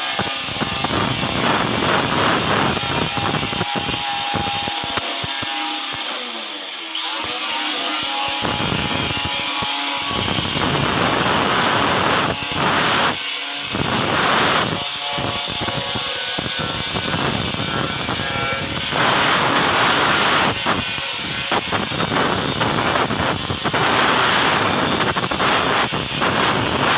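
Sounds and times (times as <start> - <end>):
metalworking hiss with harsh buzz: 0.0 - 26.9.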